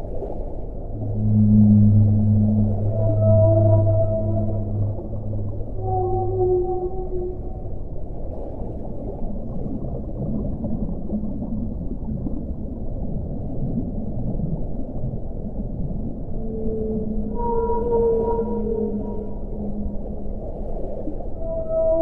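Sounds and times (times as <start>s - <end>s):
long low tone: 0.0s - 12.6s, 13.5s - 22.0s
deep underwater noise: 0.0s - 22.0s.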